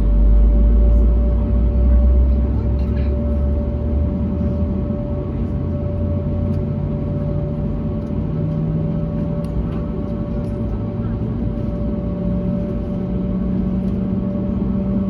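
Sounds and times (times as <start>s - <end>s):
airplane cabin engine rumble: 0.0s - 15.0s
low hum: 0.0s - 15.0s.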